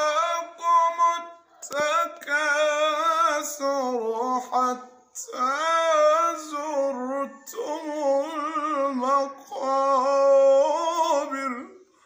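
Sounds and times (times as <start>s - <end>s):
man chanting melodic recitation: 0.0s - 11.9s.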